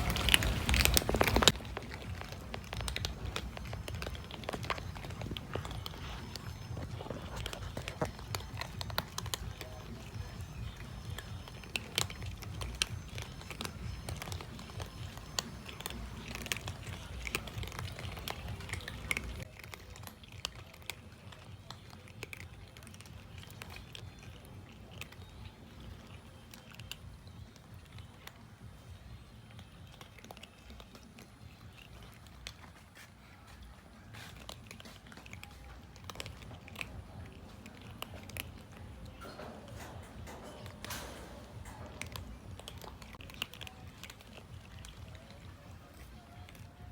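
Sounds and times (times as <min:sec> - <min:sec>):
cat eating crunchy bites: 0:00.0 - 0:46.9
chewing clicks: 0:00.0 - 0:46.9.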